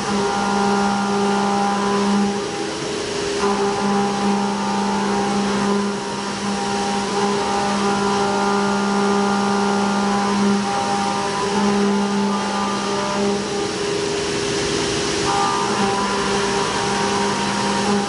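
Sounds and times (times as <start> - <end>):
coolant spray hiss: 0.0 - 18.0
milling machine cutting hum: 0.0 - 18.0.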